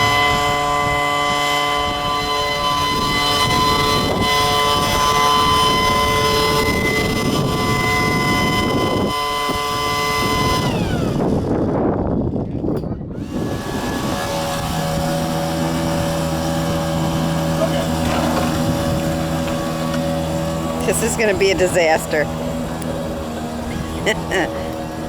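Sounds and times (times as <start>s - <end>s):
leaf blower engine whining: 0.0s - 12.0s, 13.2s - 25.0s.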